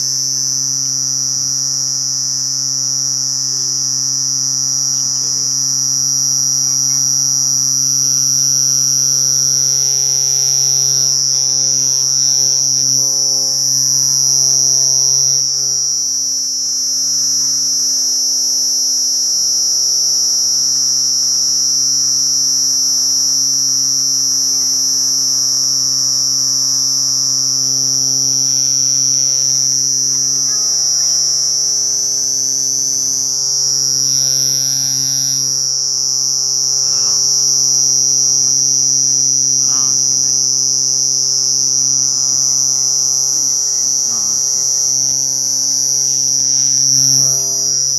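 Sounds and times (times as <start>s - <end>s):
cricket trilling: 0.0s - 47.9s
low electrical hum: 0.0s - 47.9s.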